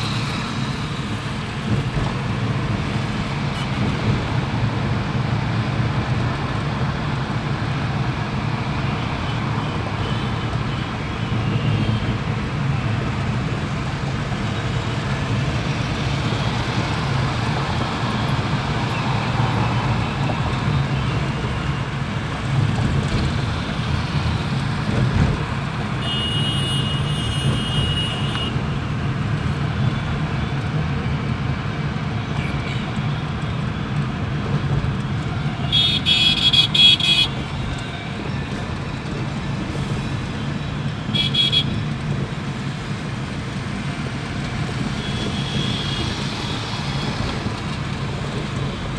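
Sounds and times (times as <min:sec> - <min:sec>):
car engine and road noise: 0:00.0 - 0:48.9.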